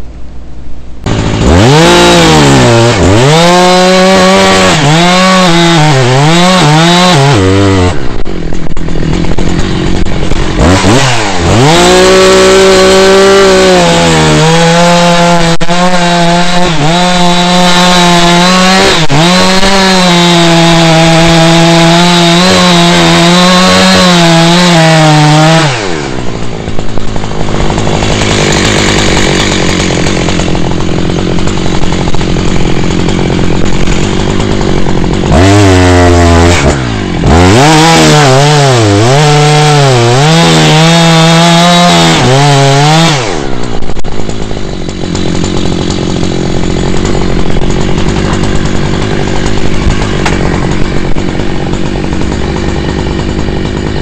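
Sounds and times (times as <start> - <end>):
chainsaw cutting wood: 1.0 - 54.0
chainsaw rattling idle: 1.1 - 54.0.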